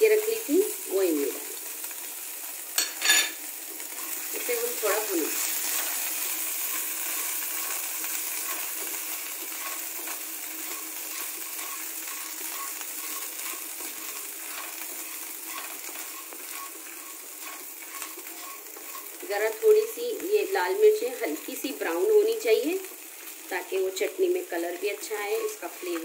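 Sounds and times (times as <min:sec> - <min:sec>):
chillies sizzling in oil: 0:00.0 - 0:26.0
spatula stirring and scraping wok: 0:01.6 - 0:20.1, 0:20.8 - 0:26.0.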